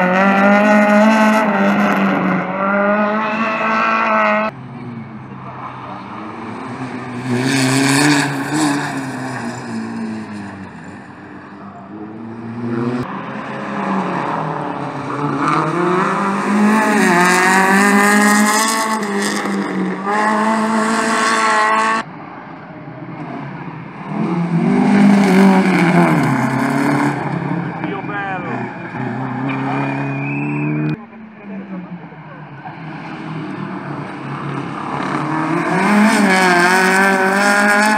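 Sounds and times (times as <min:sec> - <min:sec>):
rally car engines revving: 0:00.0 - 0:37.9.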